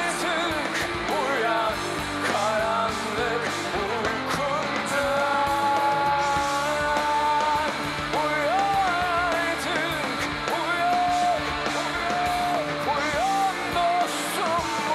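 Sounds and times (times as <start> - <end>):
drum kit: 0.0 - 14.9
electric guitars: 0.0 - 14.9.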